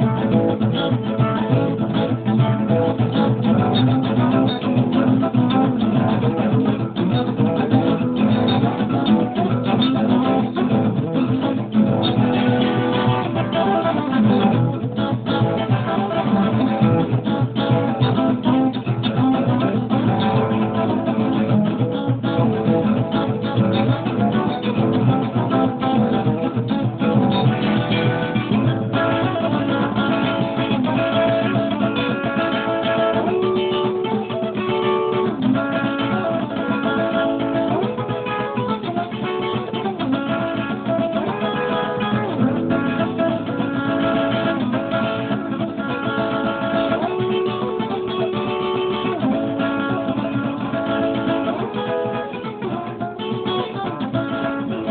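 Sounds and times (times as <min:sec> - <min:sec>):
acoustic guitar plucking: 0:00.0 - 0:54.9.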